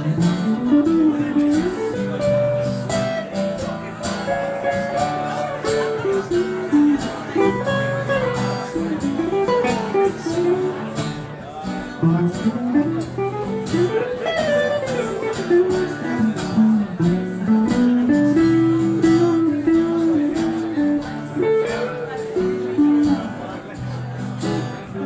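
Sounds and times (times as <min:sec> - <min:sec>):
lead guitar solo with bent notes: 0:00.0 - 0:25.0
strummed acoustic guitar: 0:00.0 - 0:25.0.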